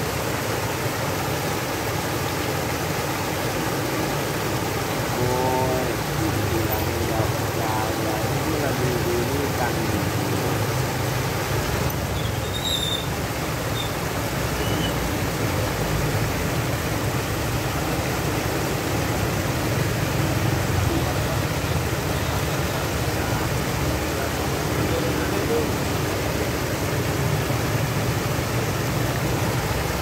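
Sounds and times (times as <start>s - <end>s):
water pouring over weir: 0.0s - 30.0s.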